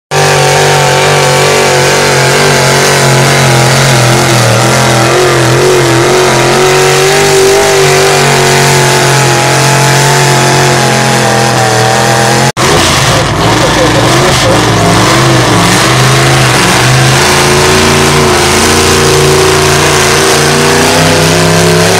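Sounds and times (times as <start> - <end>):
vehicle engine at high revs: 0.1 - 21.9.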